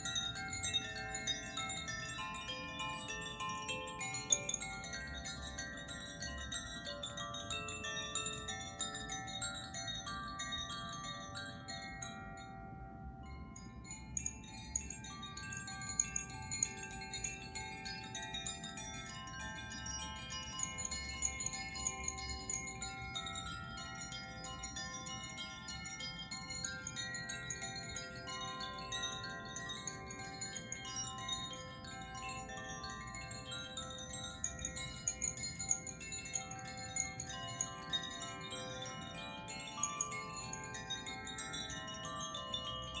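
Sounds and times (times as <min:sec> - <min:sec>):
chimes tinkling: 0:00.0 - 0:43.0.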